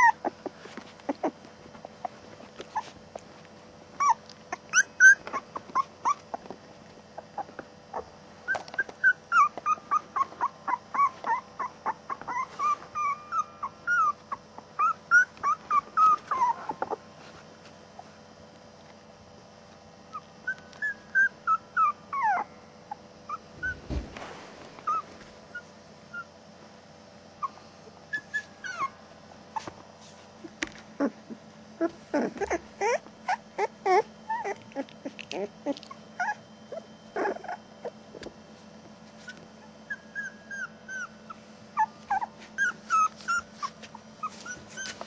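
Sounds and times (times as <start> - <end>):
puppies whimpering: 0.0 - 6.5, 7.1 - 17.0, 20.1 - 23.9, 24.8 - 26.3, 27.4 - 29.0, 30.4 - 38.4, 39.2 - 45.0.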